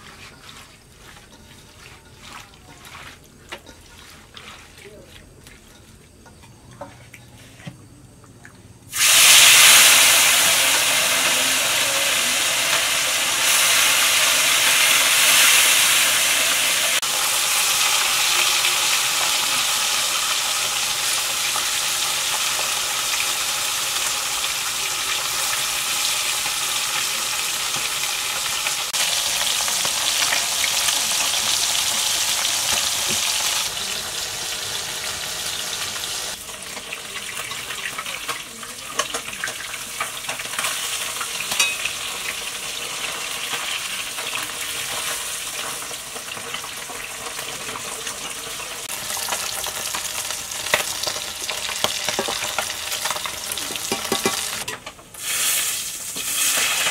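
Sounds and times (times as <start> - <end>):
fish sizzling in hot oil: 8.9 - 56.9.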